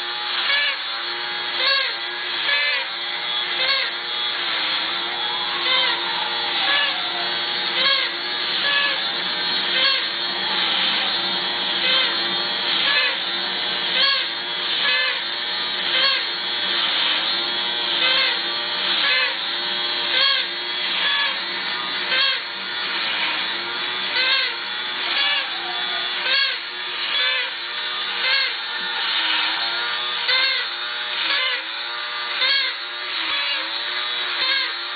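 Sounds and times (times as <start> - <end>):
toy accordion reedy tone: 0.0 - 34.9
toy motor and gears whirring: 0.0 - 34.9.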